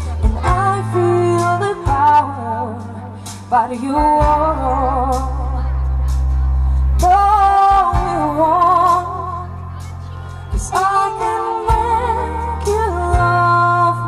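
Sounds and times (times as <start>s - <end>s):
woman singing with vibrato: 0.0s - 5.8s, 7.0s - 14.0s
live band playing slow song: 0.0s - 14.0s.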